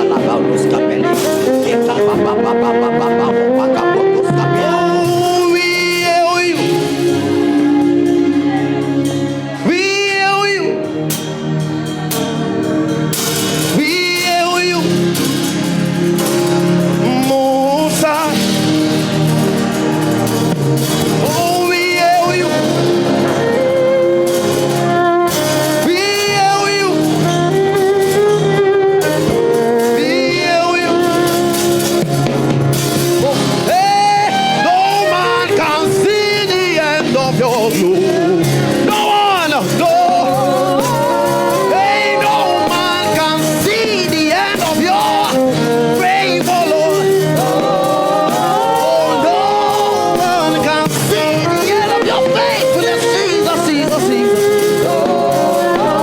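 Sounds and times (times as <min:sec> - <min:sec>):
gospel choir singing: 0:00.0 - 0:56.0
live band playing: 0:00.0 - 0:56.0.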